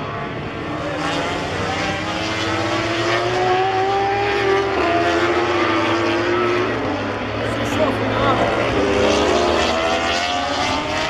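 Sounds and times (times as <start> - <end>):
racing motorcycle engine revving: 0.0 - 11.0.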